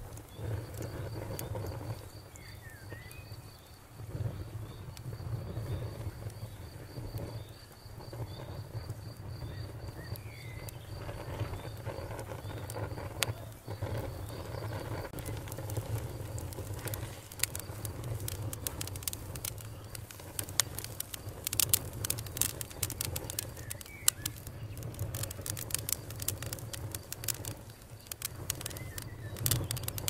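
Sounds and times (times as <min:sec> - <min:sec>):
campfire crackling and popping: 0:00.0 - 0:30.0
cricket chirping: 0:00.2 - 0:30.0.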